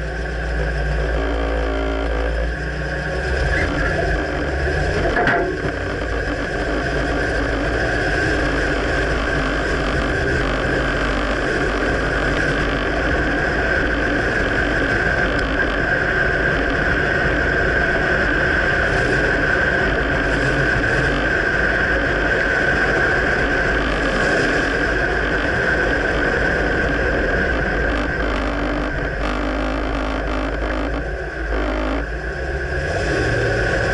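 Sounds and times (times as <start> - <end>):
pickup truck engine: 0.0 - 33.9
road noise: 0.0 - 33.9.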